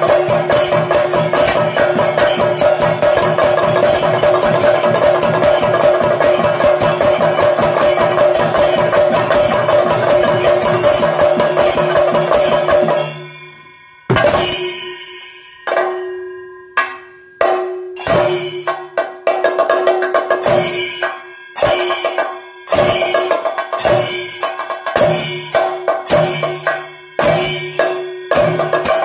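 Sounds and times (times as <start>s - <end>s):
cymbals ringing: 0.0s - 29.0s
drums played with sticks: 0.0s - 29.0s.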